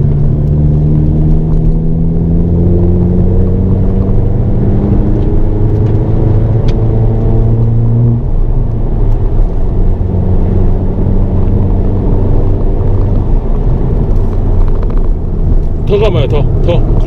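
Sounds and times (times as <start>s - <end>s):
car engine from inside cabin: 0.0s - 17.0s
road and tyre noise: 0.0s - 17.0s.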